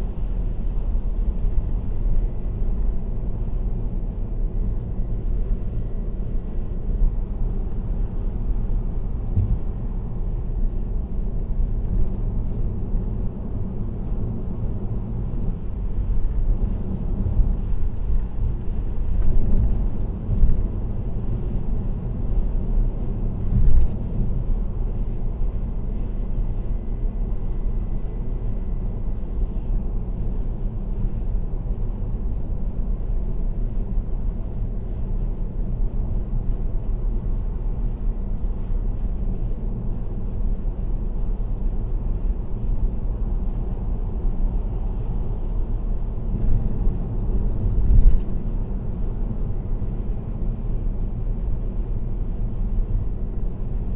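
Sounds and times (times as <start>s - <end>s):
road and tyre rumble: 0.0s - 53.9s.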